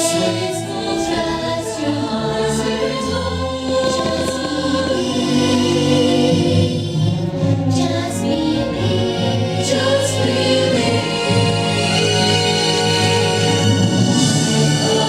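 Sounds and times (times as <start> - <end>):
choir singing held notes: 0.0 - 15.0
orchestral music: 0.0 - 15.0.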